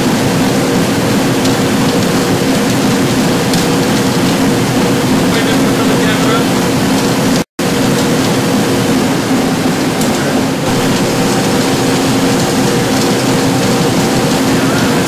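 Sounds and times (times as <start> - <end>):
low machine hum: 0.0 - 15.0
steady mechanical rush: 0.0 - 15.0.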